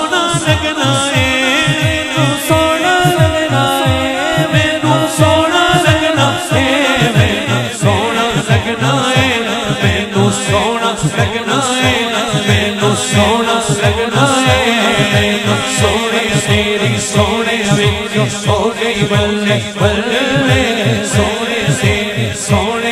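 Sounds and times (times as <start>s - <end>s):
man singing through pa system: 0.0s - 22.9s.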